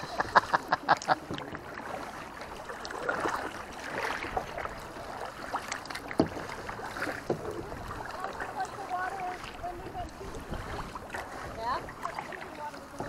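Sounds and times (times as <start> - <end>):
water lapping around kayak: 0.0 - 13.0.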